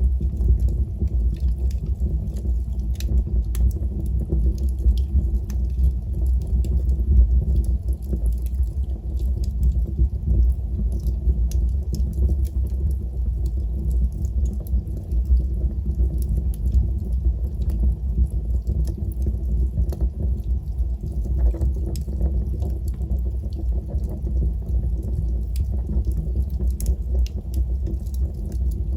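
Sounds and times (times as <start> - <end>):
fire crackling and popping: 0.0 - 28.9
low rumble of flames: 0.0 - 28.9.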